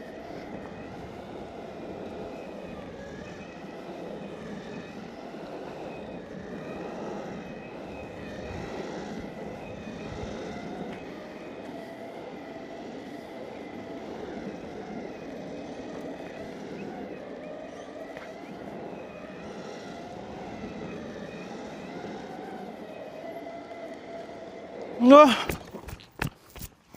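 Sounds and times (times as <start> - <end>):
electric motor whine: 0.0 - 26.2
skateboard wheels rumbling: 0.0 - 26.9.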